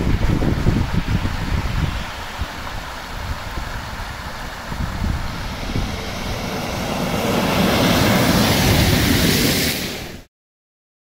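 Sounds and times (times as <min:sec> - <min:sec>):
car tyres hissing through water: 0:00.0 - 0:10.3.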